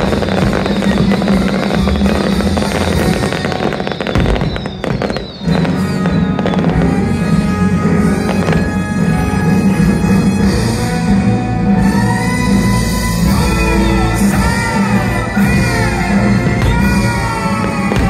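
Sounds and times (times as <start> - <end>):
fireworks bursting and crackling: 0.0 - 18.0
orchestral music: 0.0 - 18.0.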